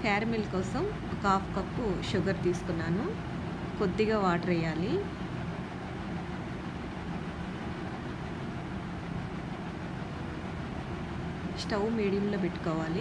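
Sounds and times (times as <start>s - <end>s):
kitchen background rumble and hiss: 0.0s - 13.0s.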